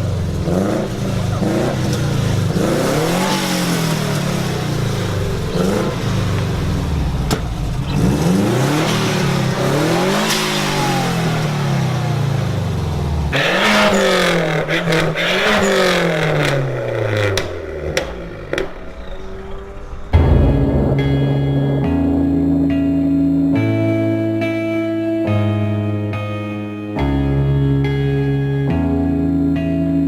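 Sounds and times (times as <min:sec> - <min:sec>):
car engine revving: 0:00.0 - 0:24.6.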